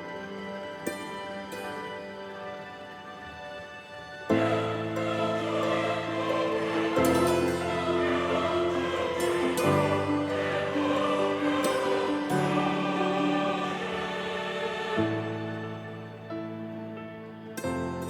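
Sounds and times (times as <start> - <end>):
slow choral chords: 0.0 - 18.0.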